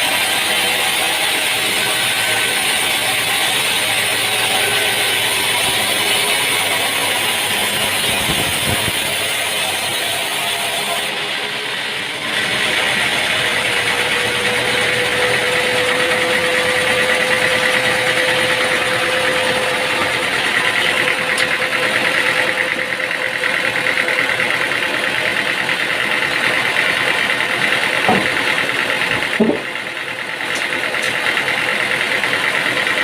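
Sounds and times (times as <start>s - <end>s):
sawmill machinery droning: 0.0s - 33.0s.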